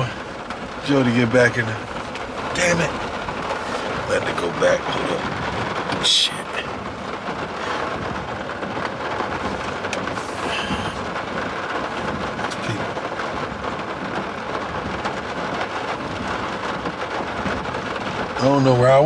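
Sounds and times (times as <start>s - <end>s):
rain on truck roof: 0.0s - 19.0s
truck running noise: 0.0s - 19.0s.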